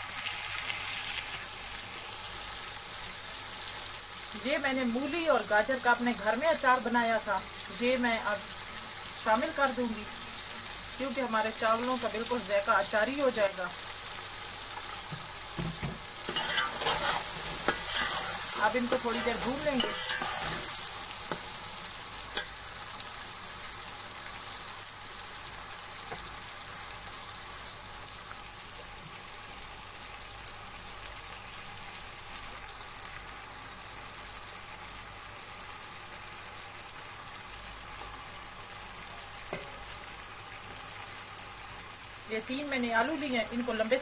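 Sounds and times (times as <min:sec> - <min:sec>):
vegetables sizzling in oil: 0:00.0 - 0:44.0.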